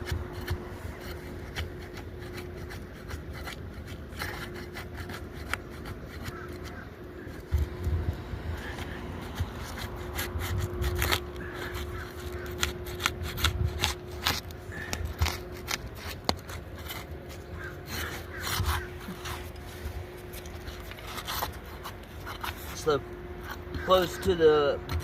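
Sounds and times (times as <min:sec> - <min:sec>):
shingle crackling and tearing: 0:00.0 - 0:25.0.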